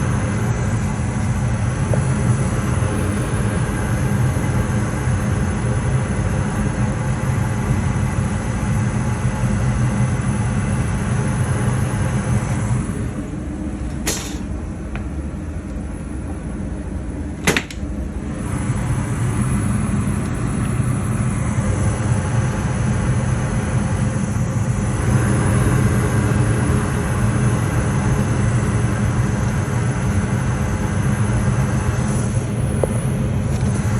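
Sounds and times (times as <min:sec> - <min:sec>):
furnace running: 0:00.0 - 0:33.9.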